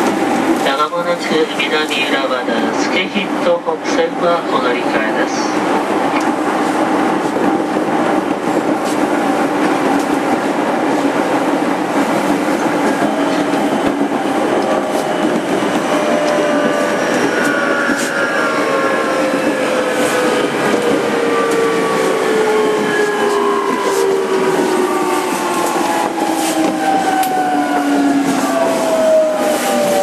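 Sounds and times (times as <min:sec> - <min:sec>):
train wheels on track: 0:00.0 - 0:30.0.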